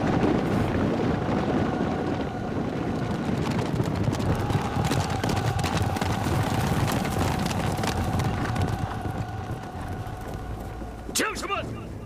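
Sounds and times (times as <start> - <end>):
horses galloping: 0.0 - 12.0.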